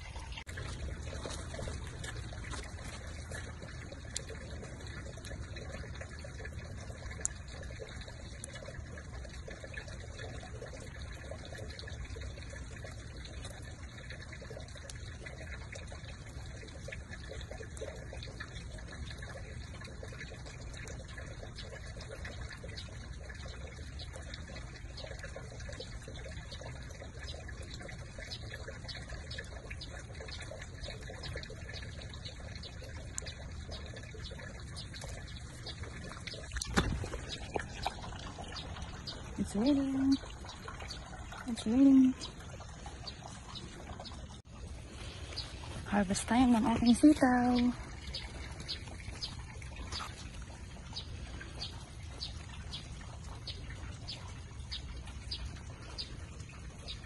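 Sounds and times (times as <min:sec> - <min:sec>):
light rain on plants: 0:00.0 - 0:57.0
drip ticks: 0:00.1 - 0:44.5, 0:45.2 - 0:57.0.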